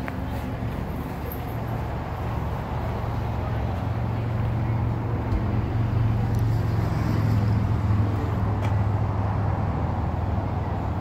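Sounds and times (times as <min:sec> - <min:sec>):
constant background noise: 0:00.0 - 0:11.0.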